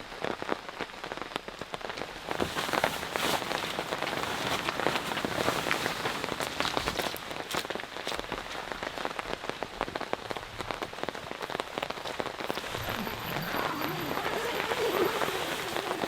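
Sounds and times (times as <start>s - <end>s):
heavy rain falling: 0.0s - 16.0s
raindrops hitting a surface: 0.0s - 16.0s.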